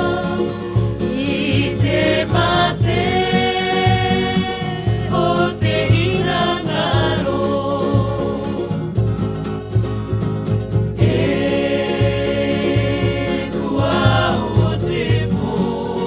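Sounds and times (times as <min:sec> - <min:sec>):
voices singing over bass beat: 0:00.0 - 0:09.1, 0:11.0 - 0:16.0.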